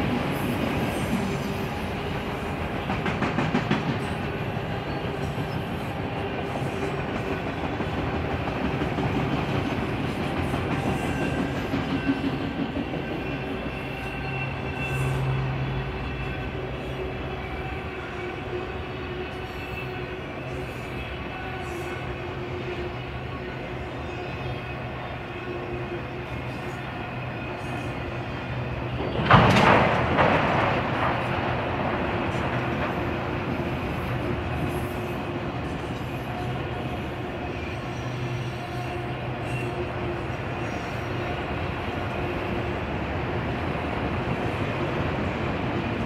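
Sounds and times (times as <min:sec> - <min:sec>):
freight cars rumbling on rails: 0:00.0 - 0:46.0.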